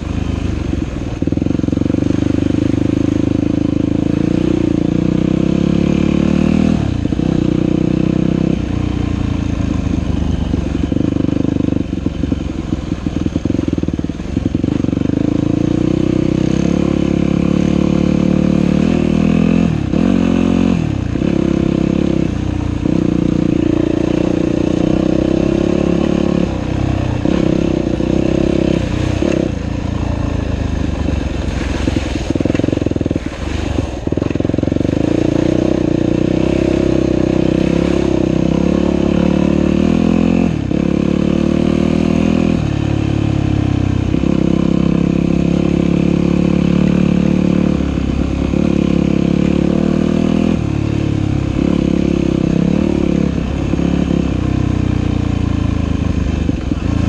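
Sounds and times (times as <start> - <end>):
dirt bike engine revving: 1.1 - 57.0.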